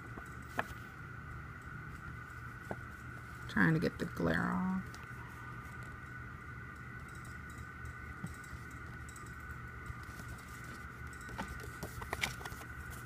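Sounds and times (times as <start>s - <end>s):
background hum: 0.0s - 13.0s
faint high whine: 0.0s - 13.0s.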